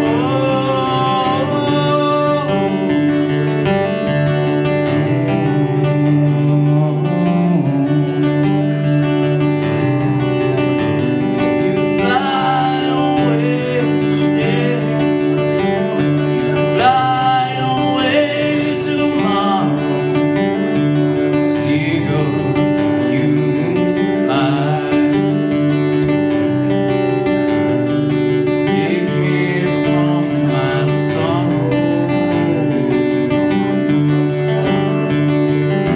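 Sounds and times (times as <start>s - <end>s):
man singing: 0.0s - 9.6s, 10.3s - 26.8s, 28.2s - 35.9s
acoustic guitar strumming: 0.0s - 35.9s.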